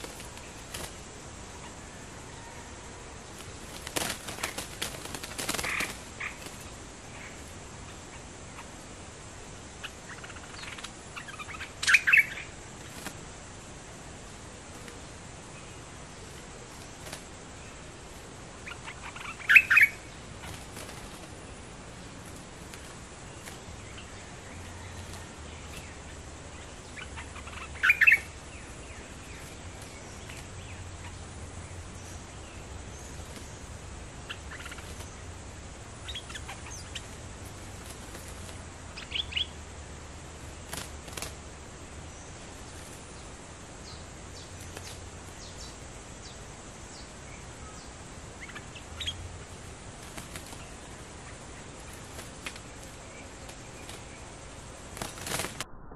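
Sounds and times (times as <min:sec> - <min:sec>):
bulbul sharp calls: 0:00.0 - 0:13.5, 0:14.1 - 0:41.4, 0:42.0 - 0:55.6.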